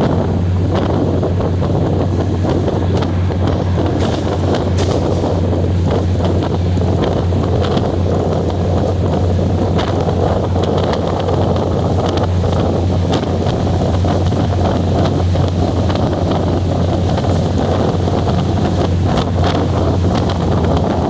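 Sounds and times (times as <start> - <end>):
train rumble and hum: 0.0 - 21.0
wind buffeting microphone: 0.0 - 21.0.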